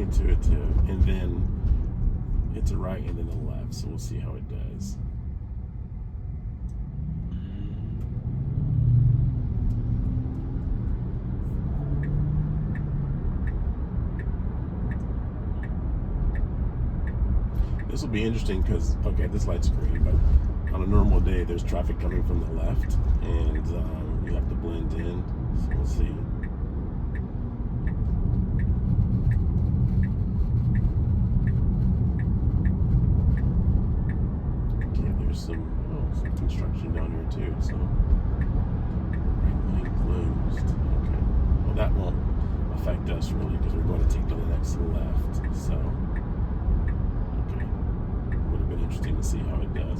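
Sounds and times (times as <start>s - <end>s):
low hum: 0.0s - 49.9s
road and tyre rumble: 0.0s - 49.9s
turn signal ticking: 0.0s - 49.9s.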